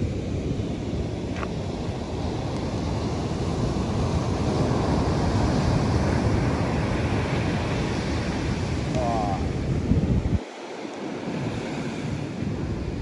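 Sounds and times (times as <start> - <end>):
ocean surf: 0.0 - 13.0
wind on microphone: 0.0 - 13.0.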